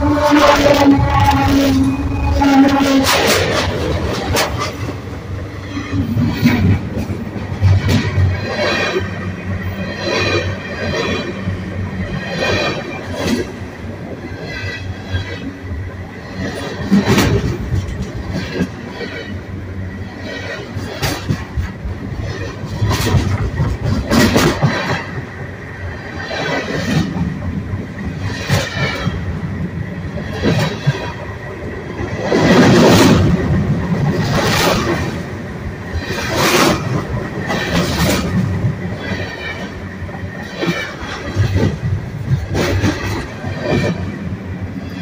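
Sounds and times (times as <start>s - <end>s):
train wheels rumbling on rails: 0.0s - 45.0s
wheels clacking and screeching: 0.0s - 45.0s.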